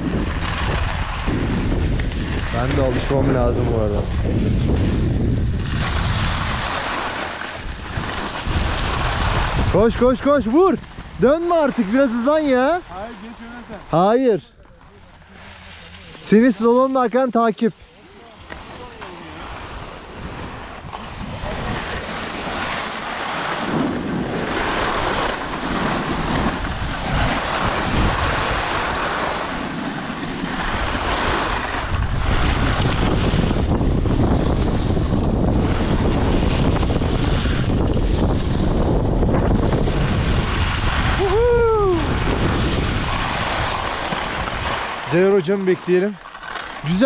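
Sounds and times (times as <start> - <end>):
wind buffeting microphone: 0.0 - 13.9, 18.8 - 46.2
skis scraping on icy snow: 0.0 - 47.0.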